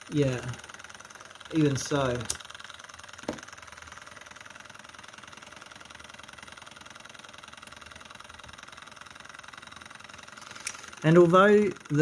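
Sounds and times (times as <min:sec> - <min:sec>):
model engine mechanical clatter: 0:00.0 - 0:12.0.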